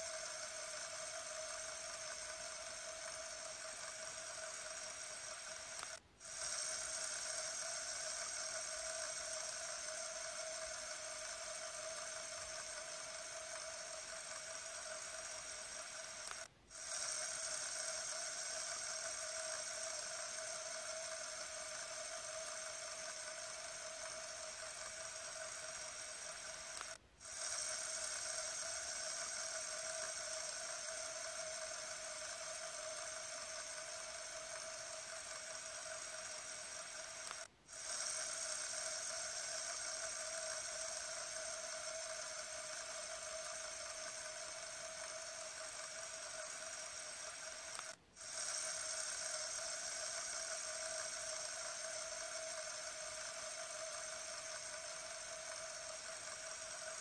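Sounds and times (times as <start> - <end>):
fidget spinner whirring: 0.0 - 57.0.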